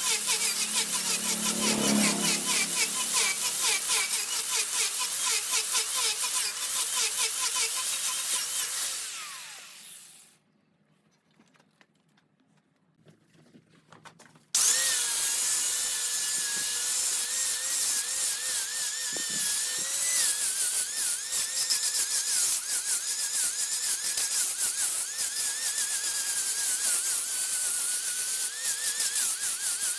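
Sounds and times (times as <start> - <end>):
wood lathe cutting: 0.0 - 10.2, 14.6 - 29.9.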